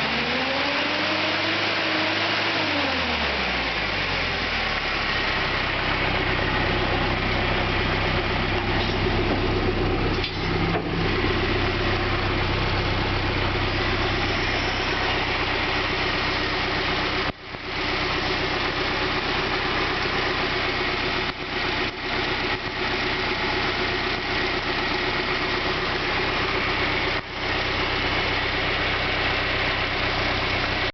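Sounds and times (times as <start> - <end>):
forklift engine idling: 2.9 - 30.9.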